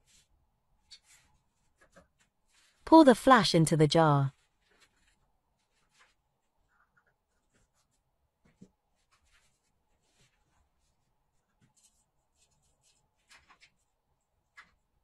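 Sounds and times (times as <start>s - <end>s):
paper rustling: 0.0s - 2.9s, 4.3s - 14.8s.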